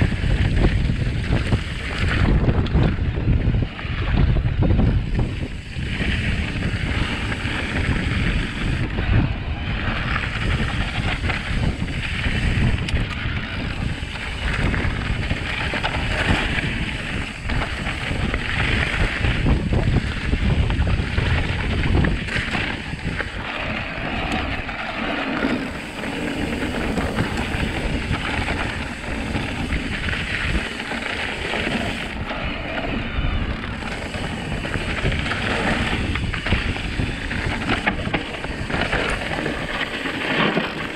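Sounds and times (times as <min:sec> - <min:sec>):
bike rattles and clicks: 0:00.0 - 0:40.9
tyres rumbling on dirt: 0:00.0 - 0:40.9
wind buffeting microphone: 0:00.0 - 0:40.9.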